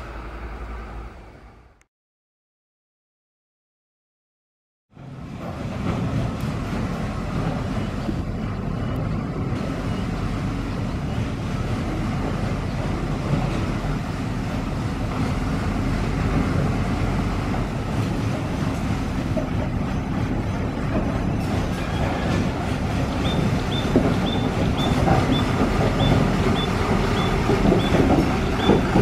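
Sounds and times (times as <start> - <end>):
diesel locomotive engine drone: 0.0 - 1.9, 4.9 - 29.0.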